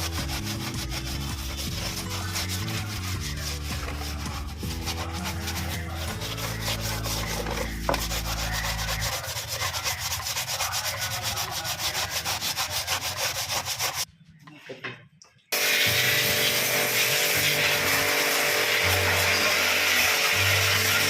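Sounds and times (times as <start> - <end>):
rhythmic scrubbing: 0.0 - 14.1, 15.6 - 21.0.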